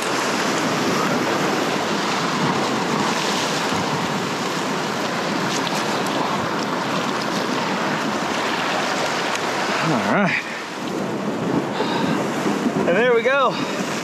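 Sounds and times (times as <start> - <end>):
surf breaking over rocks: 0.0 - 14.0.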